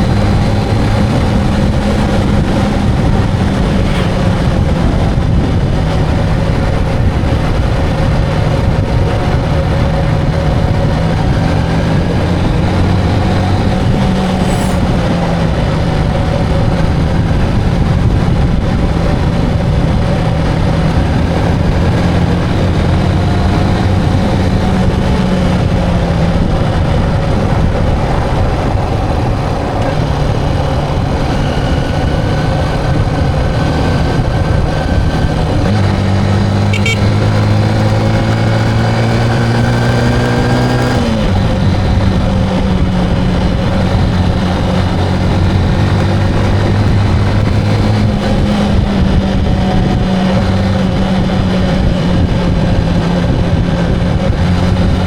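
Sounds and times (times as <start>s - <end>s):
motorcycle engine cruising: 0.0s - 55.0s
road and wind noise: 0.0s - 55.0s.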